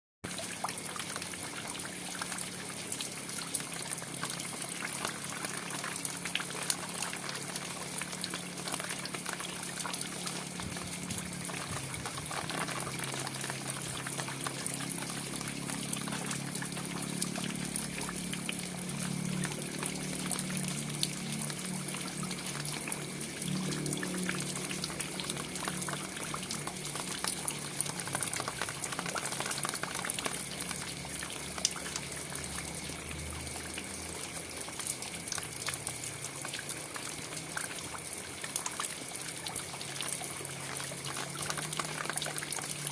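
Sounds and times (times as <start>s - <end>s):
rain drops spattering: 0.2s - 42.9s.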